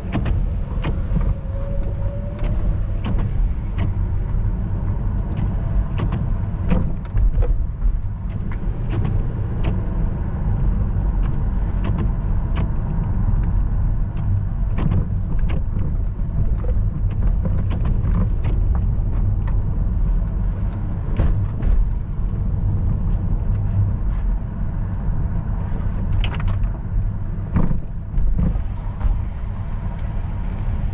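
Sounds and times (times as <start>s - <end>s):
engine and tyre rumble in car: 0.0s - 30.9s.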